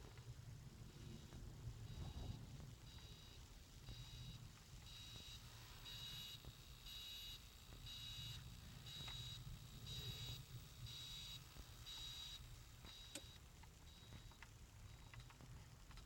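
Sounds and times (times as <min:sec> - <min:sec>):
low steady hum: 0:00.0 - 0:16.0
faint high-pitched beeping: 0:00.8 - 0:15.3.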